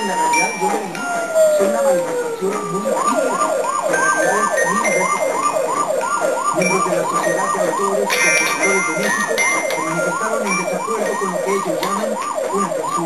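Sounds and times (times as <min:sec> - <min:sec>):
siren yelping: 0:00.0 - 0:13.0
steady tones: 0:00.0 - 0:13.0.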